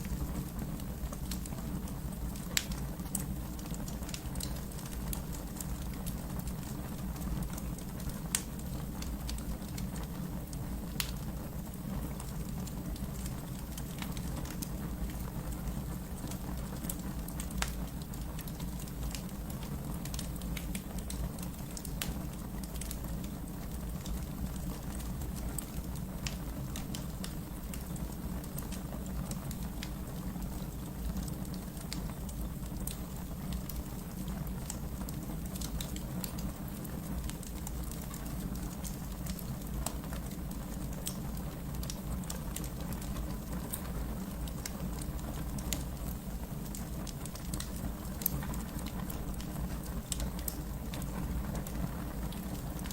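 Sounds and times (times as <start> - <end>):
fire crackles and pops: 0.0 - 52.9
fire flame rumble: 0.0 - 52.9.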